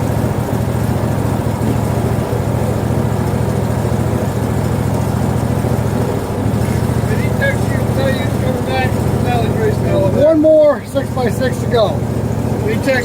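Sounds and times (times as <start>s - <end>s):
sawmill gas engine running: 0.0s - 13.0s.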